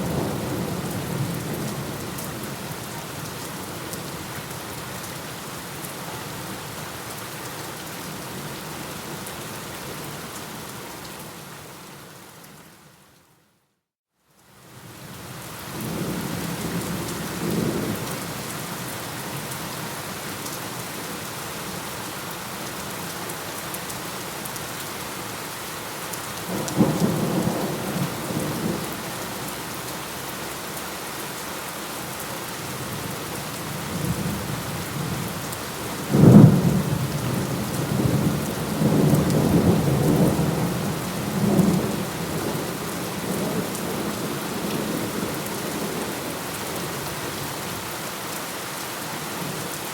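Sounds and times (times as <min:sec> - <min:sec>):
steady rain falling: 0:00.0 - 0:13.4, 0:14.2 - 0:49.9.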